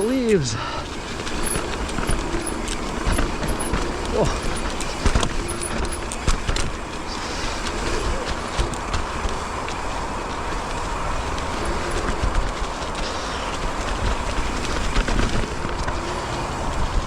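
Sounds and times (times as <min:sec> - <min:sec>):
bike clicks and rattles: 0:00.0 - 0:17.0
tyre and wind noise: 0:00.0 - 0:17.0.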